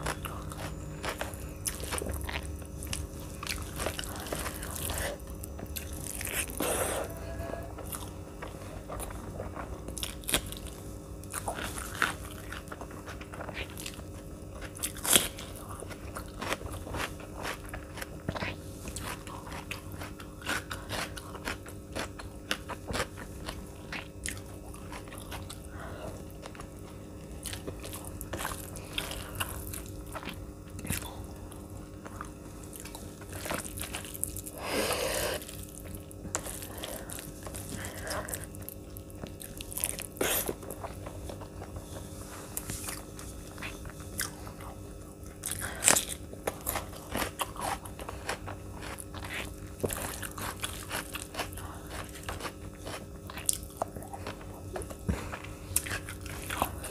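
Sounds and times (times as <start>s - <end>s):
person chewing with mouth clicks: 0.0s - 56.9s.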